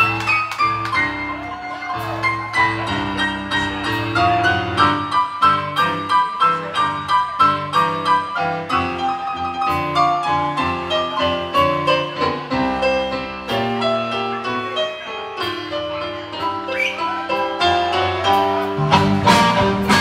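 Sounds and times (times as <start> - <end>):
live blues-rock band: 0.0 - 20.0.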